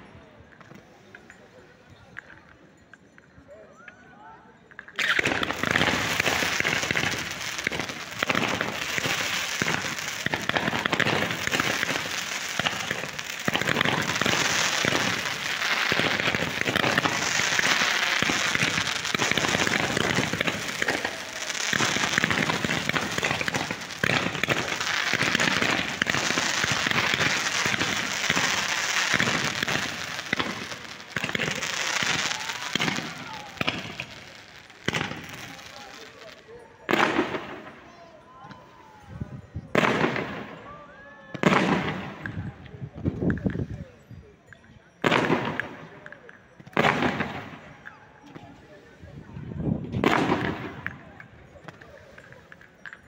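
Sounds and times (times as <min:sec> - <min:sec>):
fireworks crackling and popping: 0:04.6 - 0:40.7, 0:41.3 - 0:53.0.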